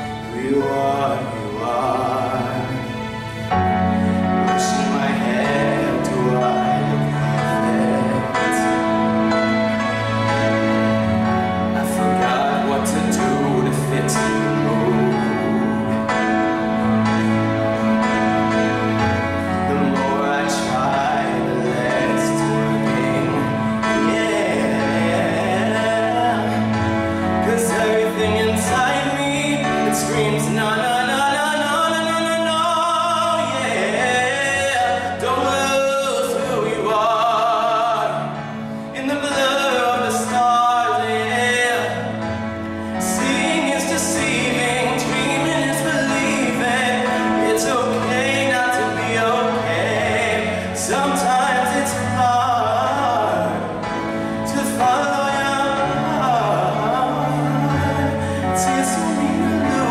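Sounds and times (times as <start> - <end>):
man singing pop ballad: 0.0 - 9.6, 11.6 - 17.3, 18.0 - 59.9.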